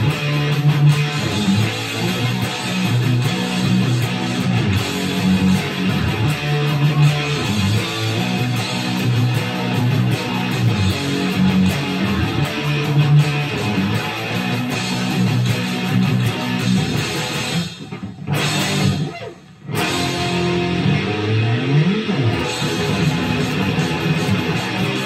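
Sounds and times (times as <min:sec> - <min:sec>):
distorted electric guitar riff: 0:00.0 - 0:25.0.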